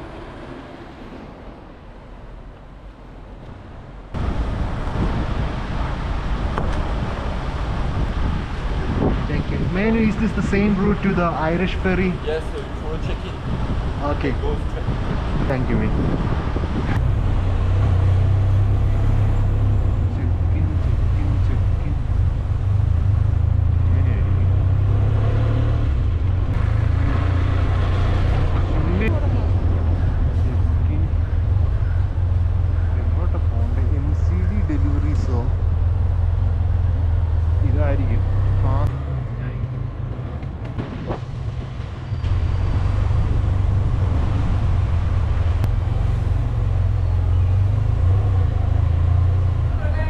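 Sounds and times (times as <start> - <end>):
motorcycle engine rumbling: 3.9 - 50.0.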